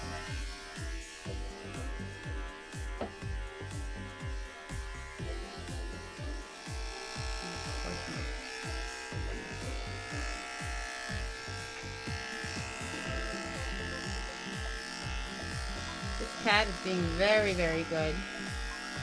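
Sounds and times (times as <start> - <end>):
background music with low beat: 0.0 - 19.0
electric clippers buzzing: 0.0 - 19.0.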